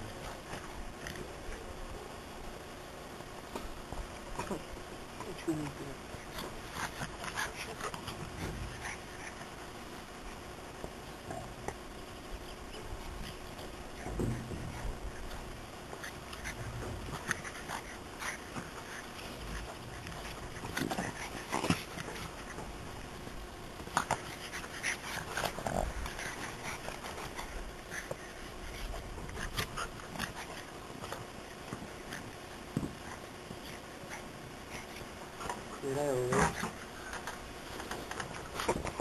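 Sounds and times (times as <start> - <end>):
dogs play-fighting noises: 0.0 - 39.0
steady low hiss: 0.0 - 39.0.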